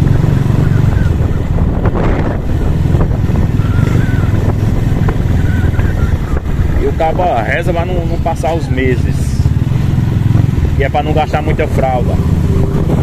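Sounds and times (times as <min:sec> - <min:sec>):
vehicle engine running: 0:00.0 - 0:13.0
wind noise on microphone: 0:00.0 - 0:13.0.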